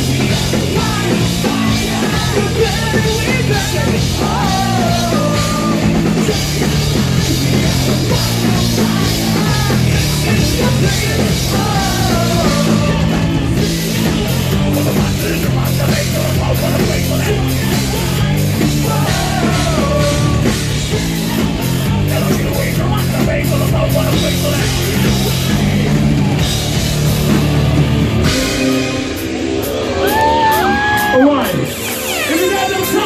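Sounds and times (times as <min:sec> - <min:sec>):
bass guitar: 0:00.0 - 0:33.0
distorted electric guitar: 0:00.0 - 0:33.0
drum kit: 0:00.0 - 0:33.0
synthesizer: 0:00.0 - 0:33.0.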